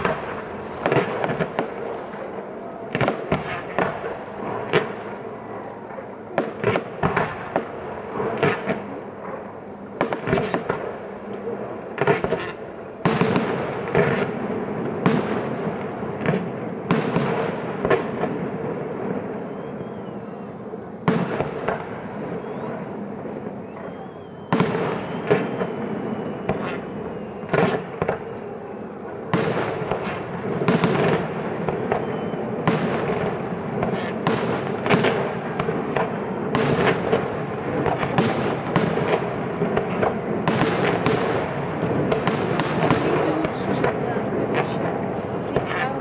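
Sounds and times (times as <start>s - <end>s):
fireworks bursting with bangs and crackle: 0.0s - 46.0s.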